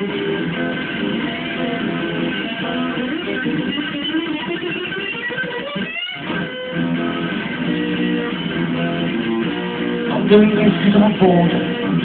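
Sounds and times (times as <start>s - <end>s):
electric guitar strumming chords: 0.0s - 12.0s
guitar rising slide: 0.0s - 12.0s.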